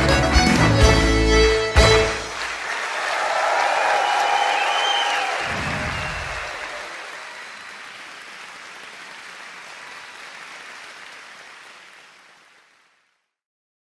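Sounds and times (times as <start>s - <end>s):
audience applauding: 0.3s - 13.3s.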